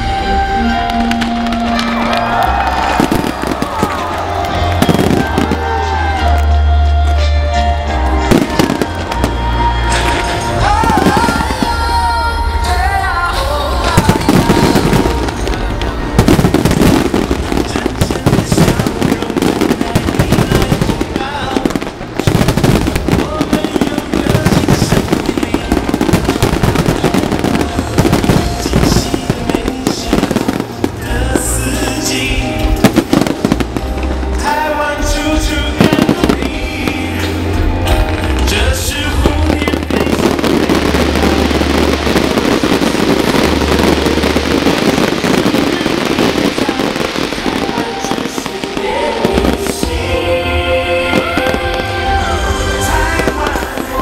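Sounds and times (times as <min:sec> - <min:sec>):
fireworks bursting and crackling: 0:00.0 - 0:54.0
music playing: 0:00.0 - 0:54.0.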